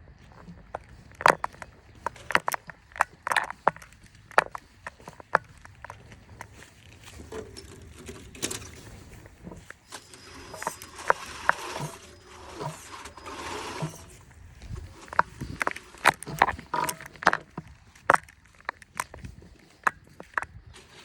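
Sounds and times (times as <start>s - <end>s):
clicks knocks and crunches: 0.2s - 21.0s
toy truck electric drivetrain: 0.4s - 19.2s, 19.8s - 21.0s.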